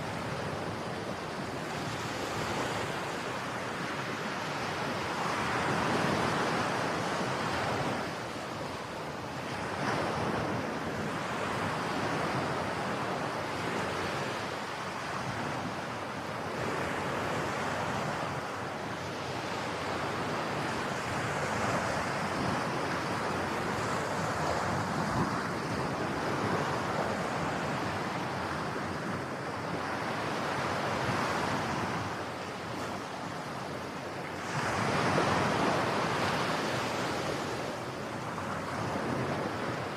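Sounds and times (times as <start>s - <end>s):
ocean waves breaking on beach: 0.0s - 39.9s
wind noise on microphone: 0.0s - 39.9s.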